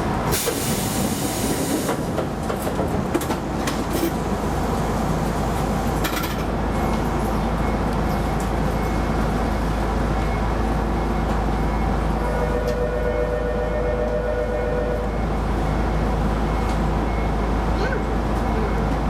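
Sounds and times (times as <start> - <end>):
electric train rumbling on track: 0.0 - 19.0.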